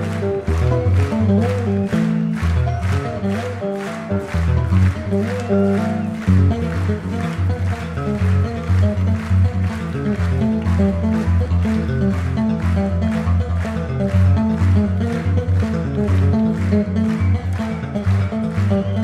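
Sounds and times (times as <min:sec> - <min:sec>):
electric bass guitar: 0:00.0 - 0:19.0.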